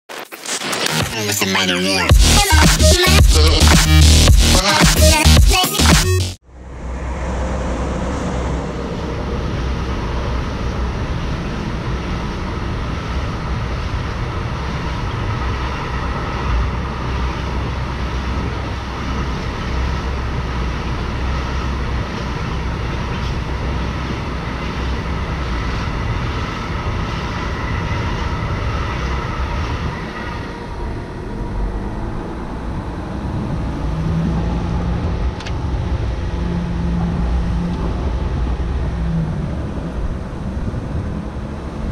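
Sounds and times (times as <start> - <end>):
pickup engine rumbling: 2.0 - 41.9
low steady hum: 6.4 - 41.9.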